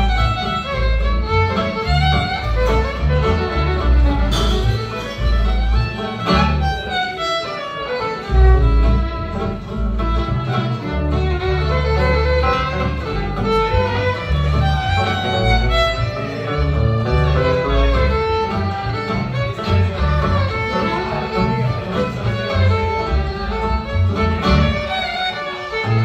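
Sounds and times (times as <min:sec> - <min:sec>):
fiddle bowing melody: 0:00.0 - 0:26.0
plucked double bass: 0:00.0 - 0:26.0
strummed acoustic guitar: 0:00.0 - 0:26.0.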